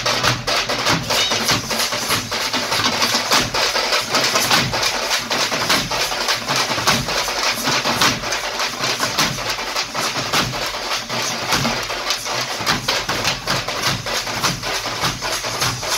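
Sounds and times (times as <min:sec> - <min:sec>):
frame drums beaten with sticks: 0:00.0 - 0:15.9.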